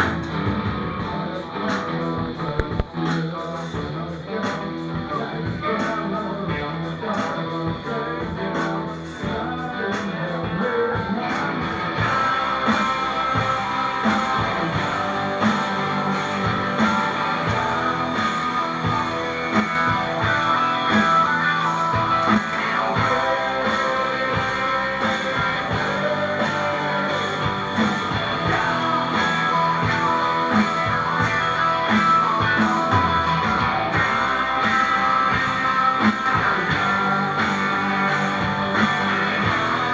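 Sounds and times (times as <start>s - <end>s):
rock band playing: 0.0s - 39.9s
strummed electric guitar: 0.0s - 39.9s.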